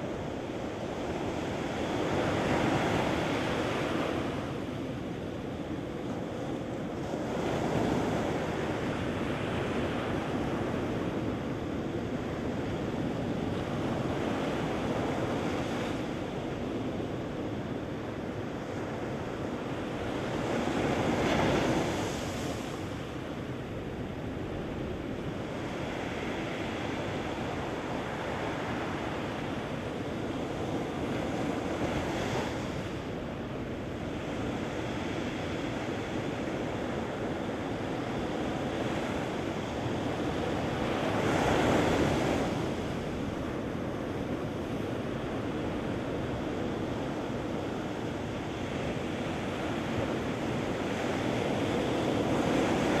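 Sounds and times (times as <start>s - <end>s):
surf washing up a beach: 0.0s - 53.0s.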